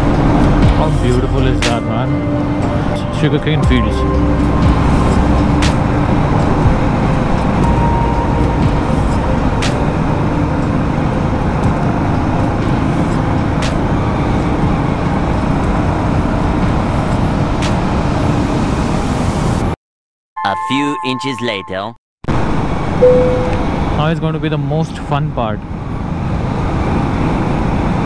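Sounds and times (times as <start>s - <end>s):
road and wind noise: 0.0s - 19.8s, 22.3s - 28.0s.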